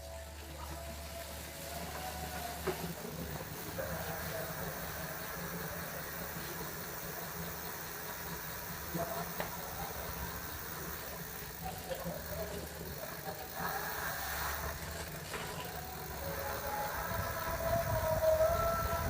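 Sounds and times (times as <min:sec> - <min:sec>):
bicycle freehub ratchet buzzing: 0:00.0 - 0:19.0.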